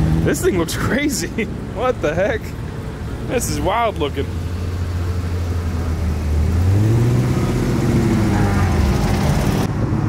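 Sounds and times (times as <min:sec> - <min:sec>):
car engine passing slowly: 0:00.0 - 0:10.0.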